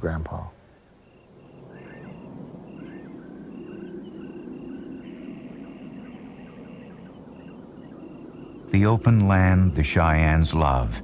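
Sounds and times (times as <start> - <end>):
lower curving chirps: 0.6 - 11.0.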